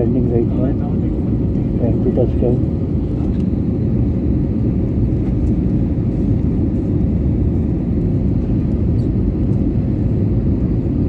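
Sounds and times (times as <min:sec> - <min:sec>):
jet cabin engine rumble: 0:00.0 - 0:11.0.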